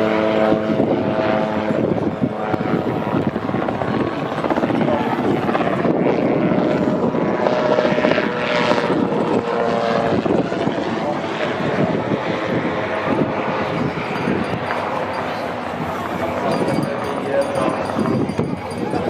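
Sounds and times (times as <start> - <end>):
helicopter rotor and turbine: 0.0 - 19.0.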